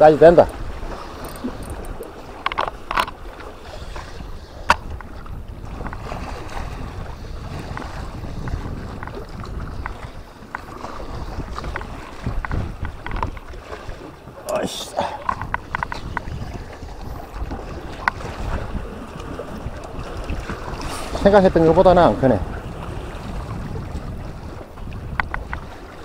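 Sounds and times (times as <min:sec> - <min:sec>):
water sloshing against concrete: 0:00.0 - 0:26.0
wind rumbling on microphone: 0:00.0 - 0:26.0.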